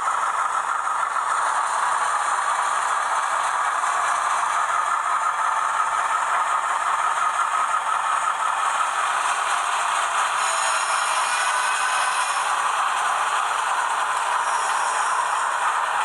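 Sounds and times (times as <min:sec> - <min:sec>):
model train rattling on track: 0:00.0 - 0:16.0.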